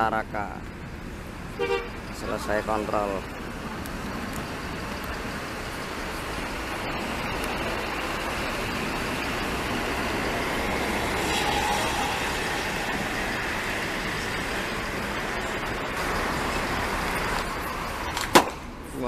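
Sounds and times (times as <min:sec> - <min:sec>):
bus engine and tyres passing: 0:00.0 - 0:19.0.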